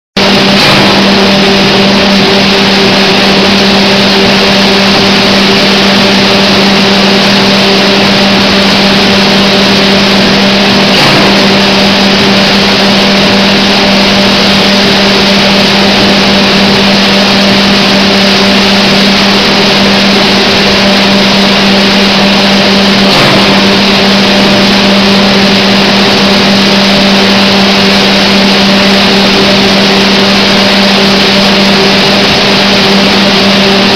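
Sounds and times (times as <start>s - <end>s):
motor hum: 0.2s - 33.9s
packing machine running: 0.2s - 33.9s.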